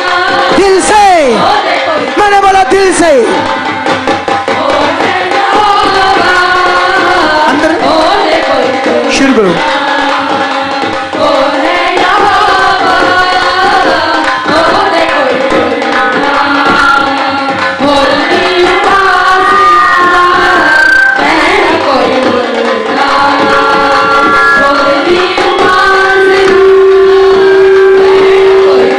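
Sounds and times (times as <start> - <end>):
women singing into microphones: 0.0 - 2.2, 4.5 - 28.9
hand drum percussion: 0.0 - 28.9.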